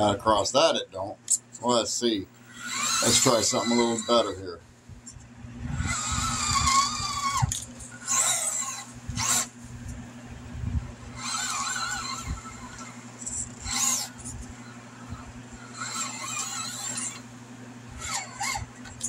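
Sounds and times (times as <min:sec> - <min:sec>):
electric motor whining: 0:02.3 - 0:19.0.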